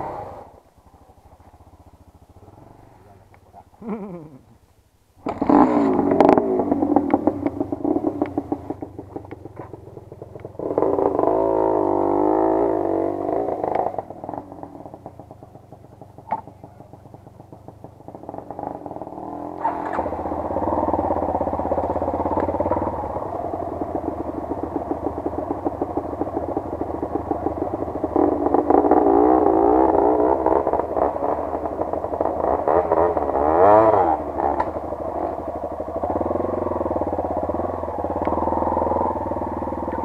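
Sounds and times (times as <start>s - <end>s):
motorcycle engines revving: 0.0s - 4.6s, 5.2s - 40.0s.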